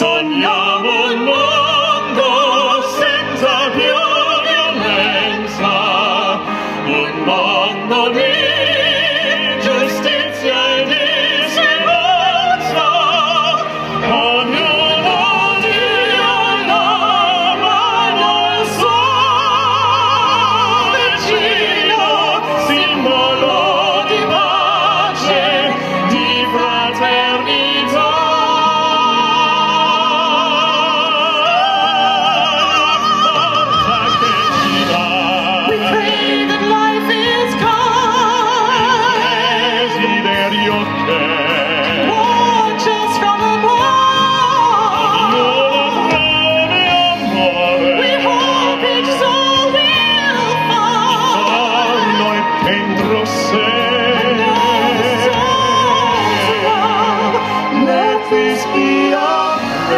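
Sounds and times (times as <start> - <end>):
man and woman singing duet: 0.0 - 59.9
musical accompaniment: 0.0 - 59.9.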